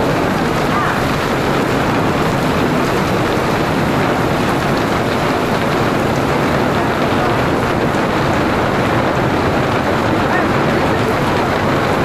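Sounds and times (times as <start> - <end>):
heavy rain and hail on pavement: 0.0 - 12.0.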